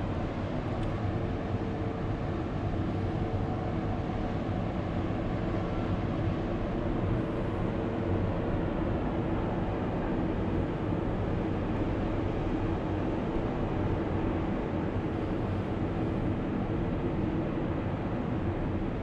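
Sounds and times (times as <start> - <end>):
faint machinery hum: 0.0 - 19.0.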